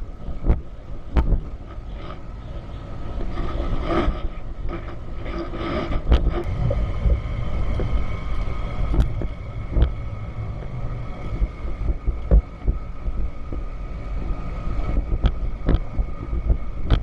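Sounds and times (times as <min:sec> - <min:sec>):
knocks and rattles over bumps: 0:00.0 - 0:02.3, 0:03.0 - 0:17.0
motorcycle engine rumbling: 0:00.0 - 0:17.0.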